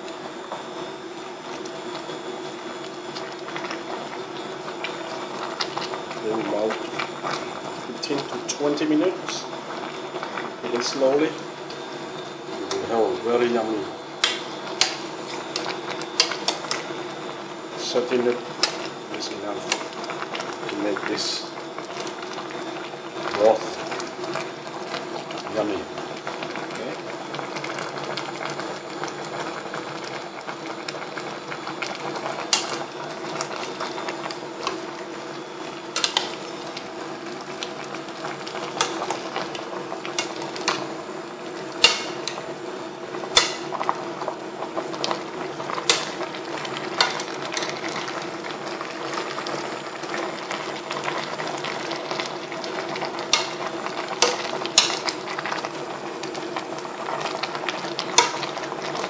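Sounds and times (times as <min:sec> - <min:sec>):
pot simmering: 0:00.0 - 0:59.0.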